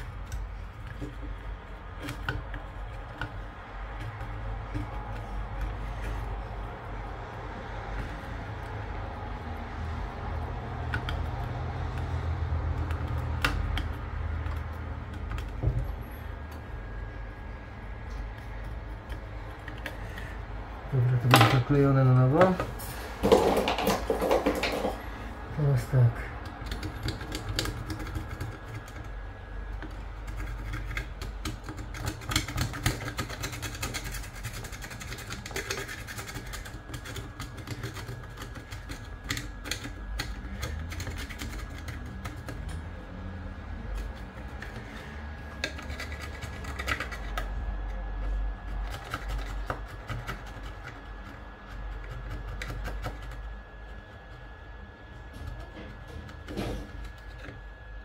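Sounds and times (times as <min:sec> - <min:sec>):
small clicks taps and scraping: 0:00.0 - 0:25.1, 0:26.3 - 0:42.9, 0:43.5 - 0:58.0.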